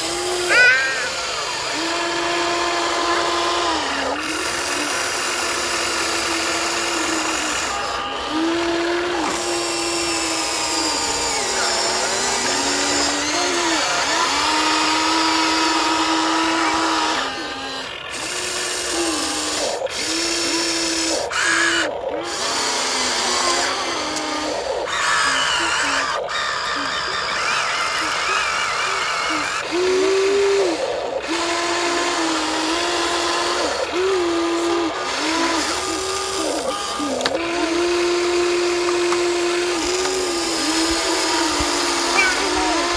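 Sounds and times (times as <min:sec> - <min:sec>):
small electric motor whining: 0:00.0 - 0:42.9.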